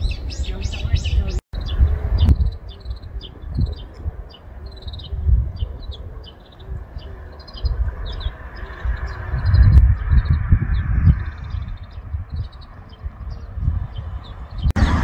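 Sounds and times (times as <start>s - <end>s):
small birds chirping: 0.0s - 15.0s
wind on microphone: 0.0s - 15.0s.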